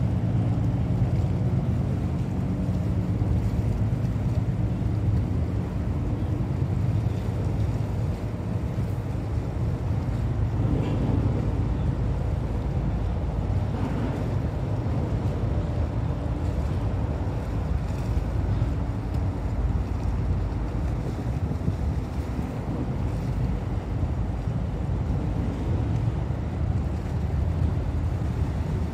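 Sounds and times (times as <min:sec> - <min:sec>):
choppy sea water lapping: 0:00.0 - 0:28.9
low steady rumble: 0:00.0 - 0:28.9
wind buffeting microphone: 0:00.0 - 0:28.9.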